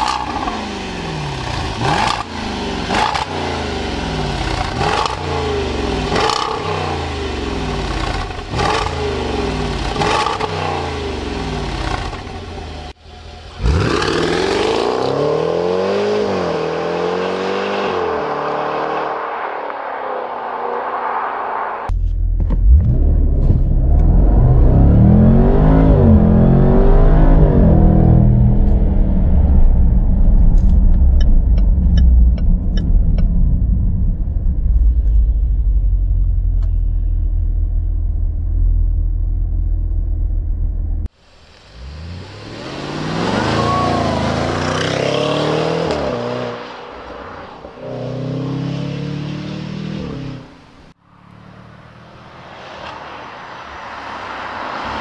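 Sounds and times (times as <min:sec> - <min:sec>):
car engine accelerating: 0:00.0 - 0:20.6, 0:21.8 - 0:55.0.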